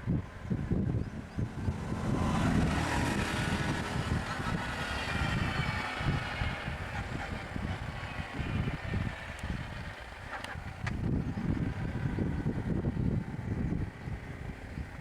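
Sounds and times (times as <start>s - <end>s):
wind buffeting microphone: 0.0s - 15.0s
vehicle engine running: 0.1s - 15.0s
whining tone: 0.7s - 13.0s.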